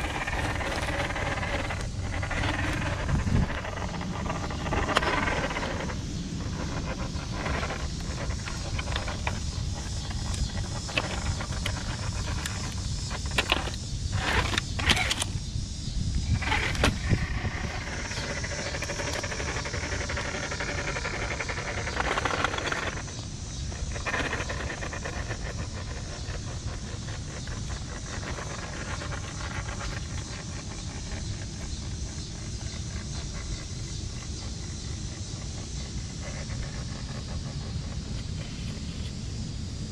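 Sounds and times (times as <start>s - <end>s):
toy car electric motor whining: 0.0s - 39.2s.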